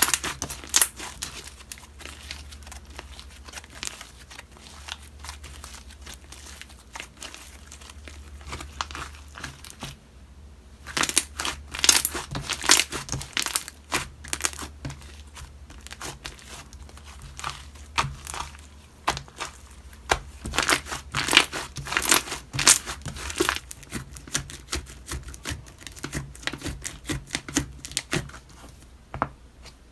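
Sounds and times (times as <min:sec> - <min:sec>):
slime squeezed crackling and popping: 0:00.0 - 0:09.8, 0:10.9 - 0:28.2.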